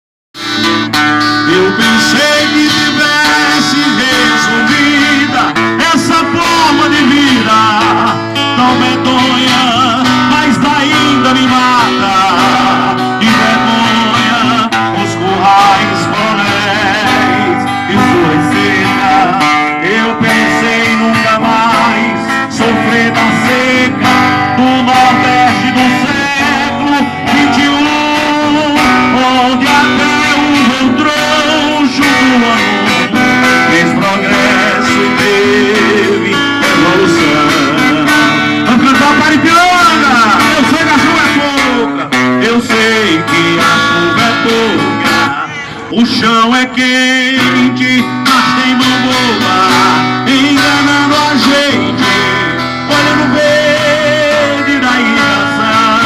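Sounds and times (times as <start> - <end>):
acoustic guitar music: 0.3 - 56.0
person singing: 1.3 - 56.0.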